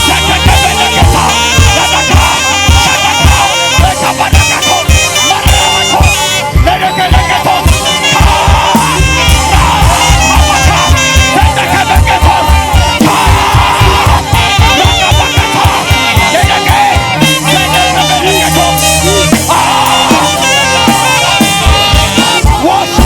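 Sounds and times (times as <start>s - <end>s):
bass: 0.0s - 23.0s
drum beat: 0.0s - 23.0s
lead melody: 0.0s - 23.0s.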